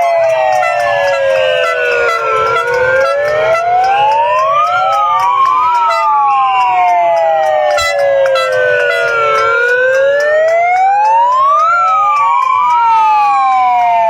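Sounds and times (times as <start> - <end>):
sirens wailing: 0.0 - 14.0.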